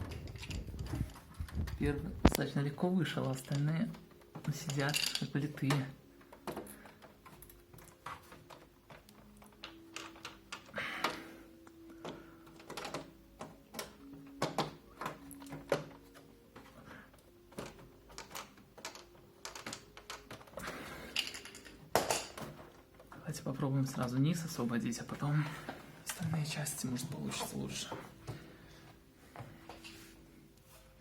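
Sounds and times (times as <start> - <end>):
plastic clips clicking and knocking: 0.0 - 26.4.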